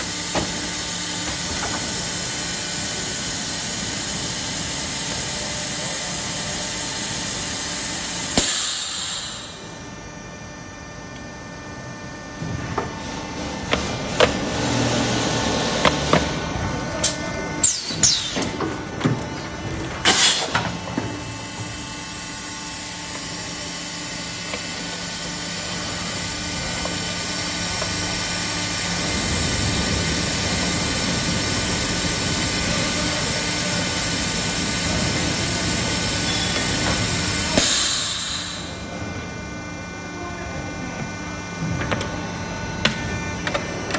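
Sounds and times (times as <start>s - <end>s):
machine humming: 0.0s - 43.9s.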